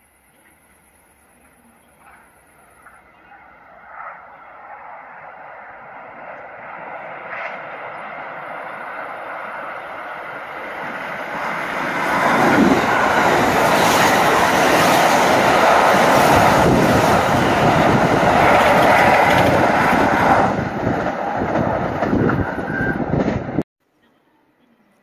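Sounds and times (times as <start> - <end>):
electric train passing at speed: 0.0 - 23.6.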